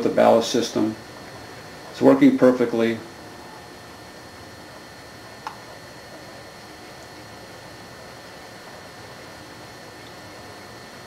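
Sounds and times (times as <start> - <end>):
faint high-pitched whines: 0.0 - 11.0.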